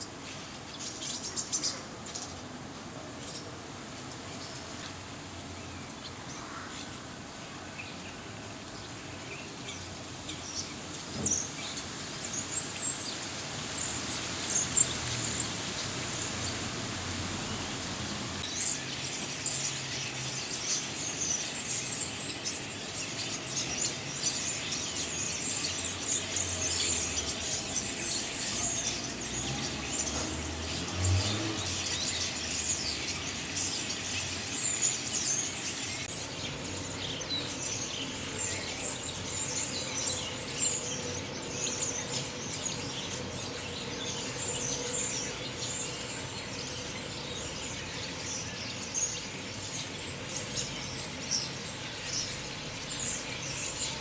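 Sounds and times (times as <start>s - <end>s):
starlings chattering: 0.0s - 54.0s.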